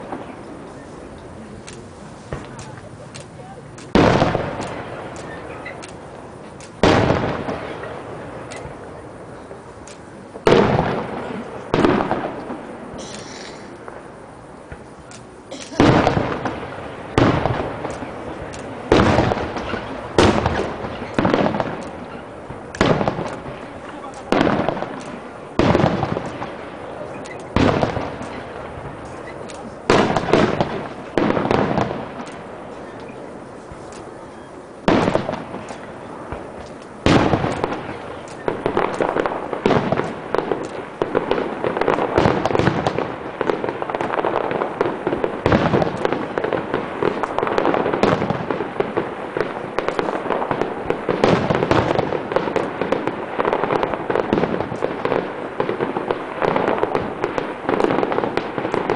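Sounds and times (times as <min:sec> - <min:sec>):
fireworks bursting with bangs: 0:00.0 - 0:58.9
fireworks crackle: 0:00.0 - 0:58.9.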